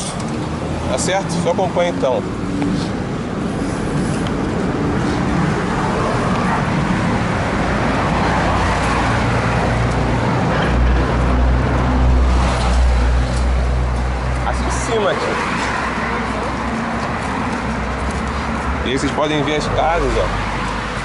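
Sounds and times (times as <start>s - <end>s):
low engine drone: 0.0s - 21.0s
vehicles passing: 0.0s - 21.0s.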